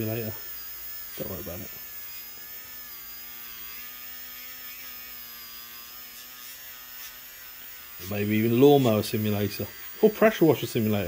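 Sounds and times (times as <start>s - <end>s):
rotary tool whine: 0.0s - 11.0s.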